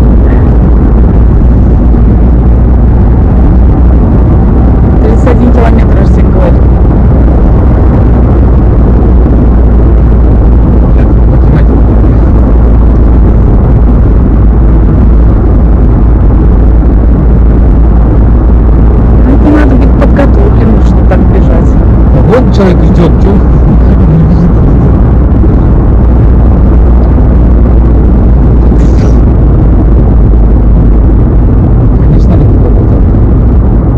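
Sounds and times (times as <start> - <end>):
car driving rumble: 0.0 - 33.9
road and wind noise: 0.0 - 33.9.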